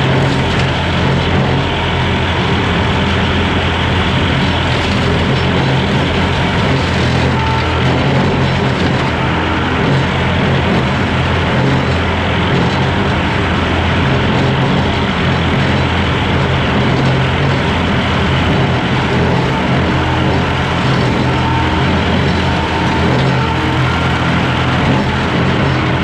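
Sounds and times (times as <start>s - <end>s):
hydraulic brush cutter working: 0.0s - 26.0s
skid steer engine under load: 0.0s - 26.0s.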